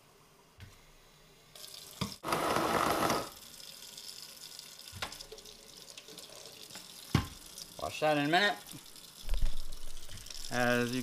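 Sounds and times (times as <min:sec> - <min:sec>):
faucet running into plastic cup: 0:01.6 - 0:11.0.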